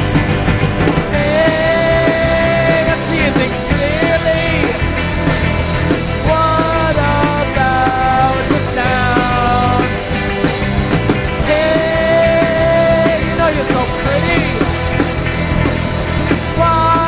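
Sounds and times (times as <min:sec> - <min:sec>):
indie rock song: 0:00.0 - 0:17.0.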